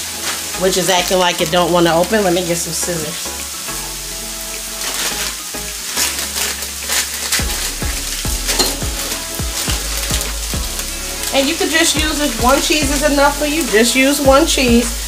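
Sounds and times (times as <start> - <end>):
chicken and bread sizzling on griddle: 0.0 - 15.0.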